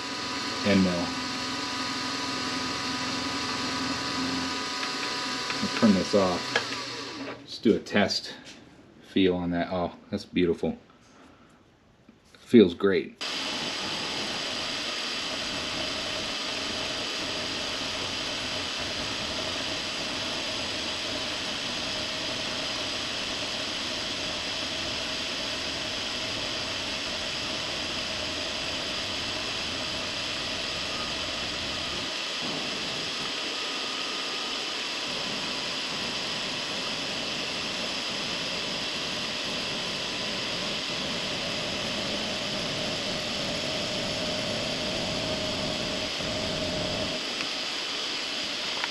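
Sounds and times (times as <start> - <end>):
milling machine running: 0.0 - 7.5, 13.2 - 48.9
steady cutting whine: 0.0 - 8.5, 13.2 - 48.9.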